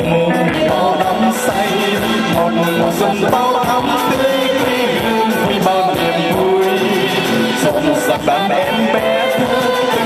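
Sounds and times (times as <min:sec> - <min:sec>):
man and woman singing duet: 0:00.0 - 0:10.0.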